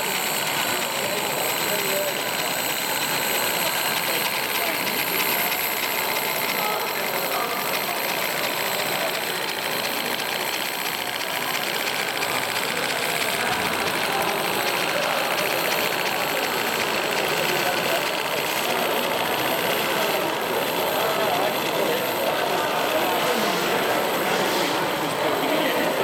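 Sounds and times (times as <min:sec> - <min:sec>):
steam hissing: 0:00.0 - 0:21.3
steam locomotive mechanical beat: 0:00.0 - 0:25.1.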